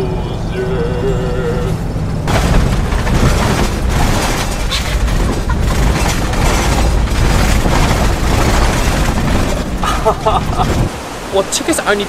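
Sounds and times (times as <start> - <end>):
van driving on dirt road: 0.0 - 11.9.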